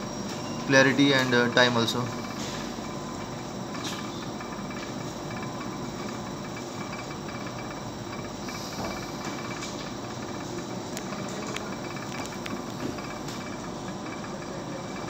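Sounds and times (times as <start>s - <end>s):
faint steady hum: 0.0s - 15.0s
laboratory stirrer hissing: 0.0s - 15.0s.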